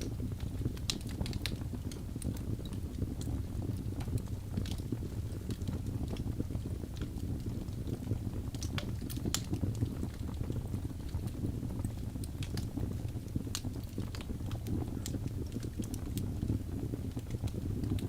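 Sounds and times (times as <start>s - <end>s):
fire low rumble: 0.0s - 18.0s
wood crackling and popping: 0.0s - 18.0s.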